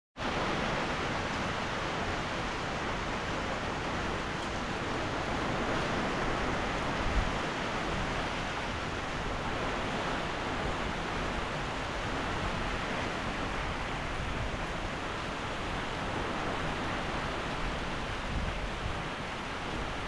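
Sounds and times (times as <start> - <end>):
heavy rain pouring: 0.2 - 20.0.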